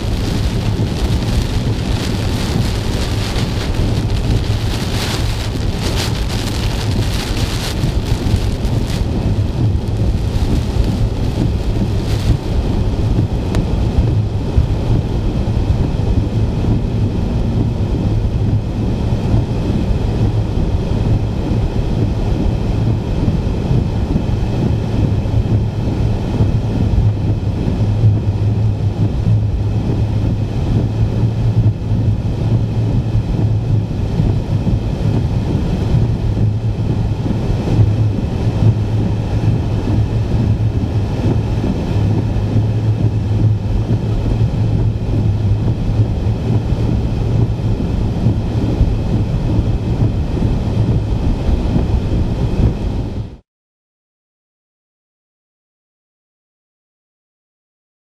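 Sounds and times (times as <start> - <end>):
engine and tyre drone: 0.0 - 53.1
heavy rain beating on a car: 0.0 - 53.4.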